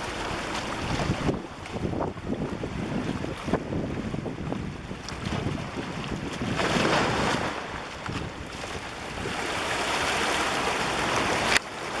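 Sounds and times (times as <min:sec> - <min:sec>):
ocean waves breaking on beach: 0:00.0 - 0:12.0
wind noise on microphone: 0:00.0 - 0:12.0.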